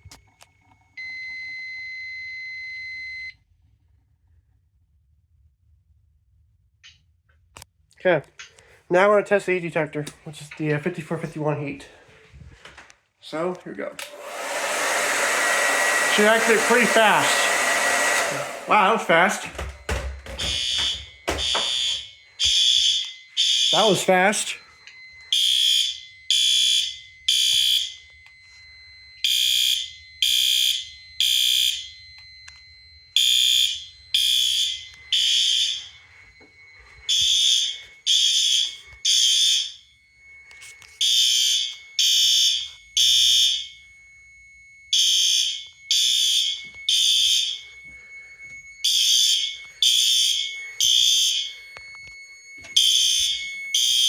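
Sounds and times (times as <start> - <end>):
fire alarm horns beeping: 8.4 - 54.0.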